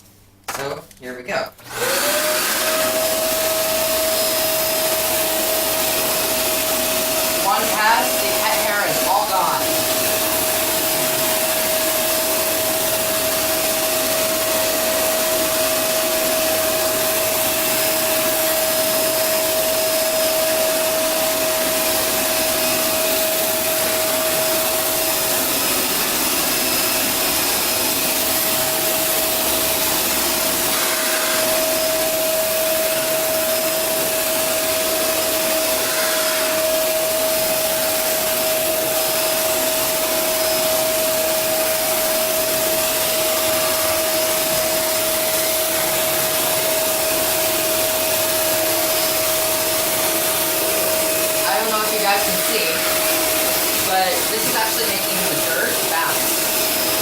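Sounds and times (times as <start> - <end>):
vacuum cleaner running: 1.6 - 57.0.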